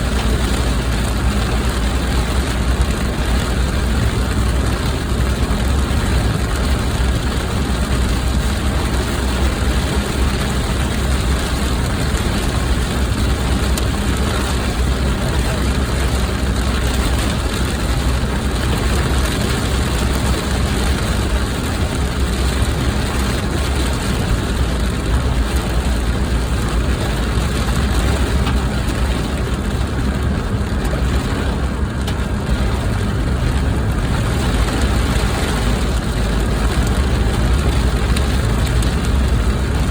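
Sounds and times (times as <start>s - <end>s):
car driving: 0.0s - 39.9s.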